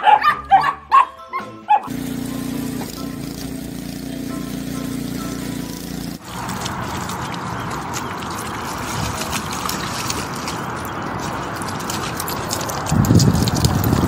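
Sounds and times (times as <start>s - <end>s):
dog splashing in paddling pool: 1.9s - 14.0s.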